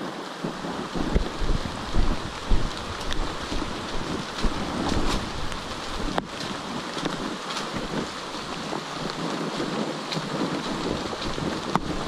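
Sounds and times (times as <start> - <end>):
rain on foliage: 0.0 - 12.0.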